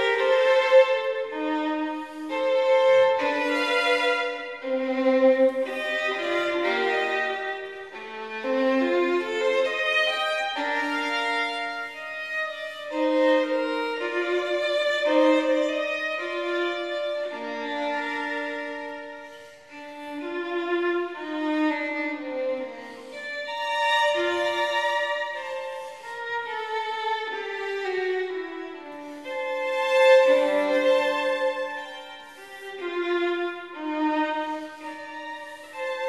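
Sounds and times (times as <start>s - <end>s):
violin melody: 0.0s - 36.0s.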